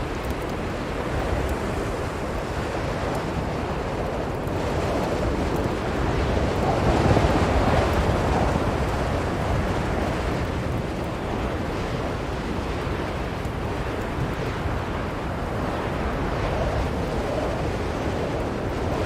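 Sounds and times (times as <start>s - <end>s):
blizzard wind rushing: 0.0s - 19.0s.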